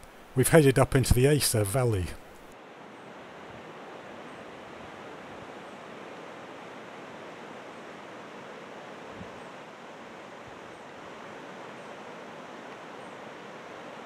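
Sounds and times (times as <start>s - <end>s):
rushing river: 0.0s - 14.0s.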